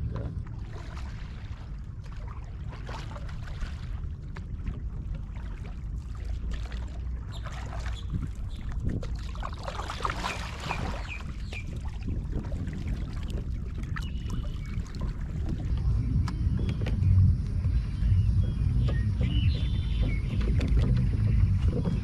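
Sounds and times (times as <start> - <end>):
steady low rumble: 0.0 - 22.0
water lapping against kayak hull: 0.0 - 22.0.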